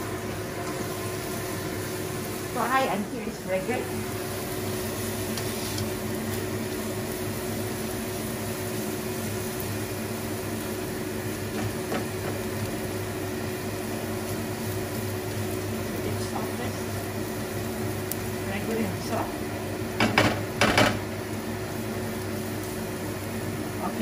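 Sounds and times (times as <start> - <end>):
motor hum with faint hiss: 0.0 - 24.0.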